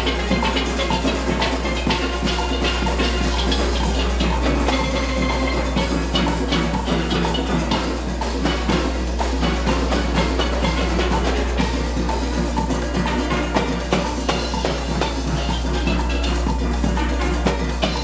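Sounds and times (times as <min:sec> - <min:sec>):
steel orchestra playing: 0:00.0 - 0:18.0.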